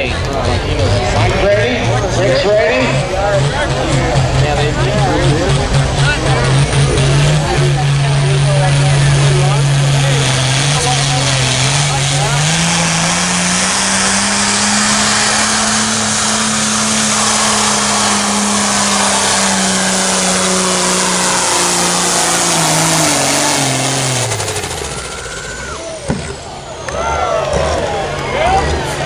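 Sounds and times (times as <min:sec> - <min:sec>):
tractor engine at high revs: 0:00.0 - 0:29.0.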